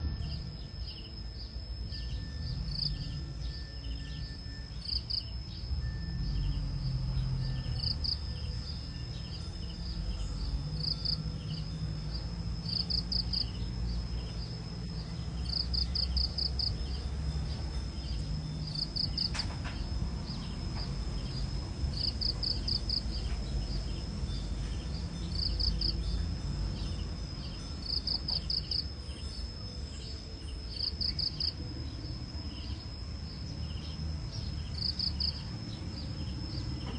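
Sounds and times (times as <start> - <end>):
cricket chirps: 0.0 - 36.9
high-pitched insect trill: 0.0 - 36.9
low rumble: 0.0 - 36.9.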